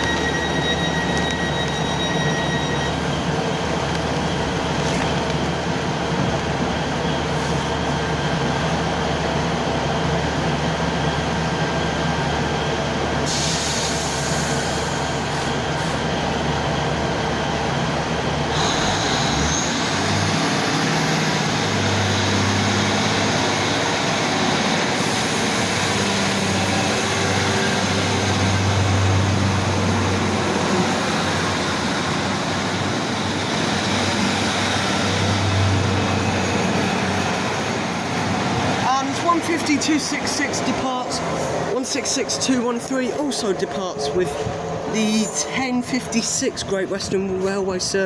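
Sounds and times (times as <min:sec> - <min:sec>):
train diesel engines idling: 0:00.0 - 0:48.0.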